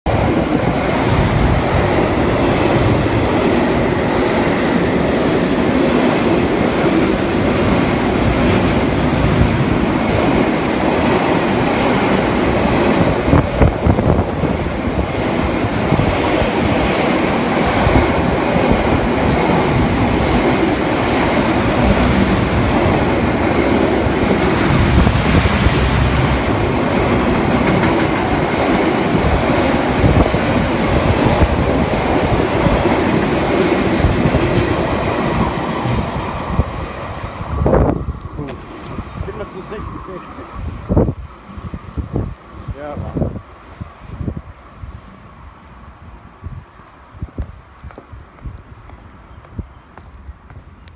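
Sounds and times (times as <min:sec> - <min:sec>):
train wheels rumbling on rails: 0:00.1 - 0:50.9.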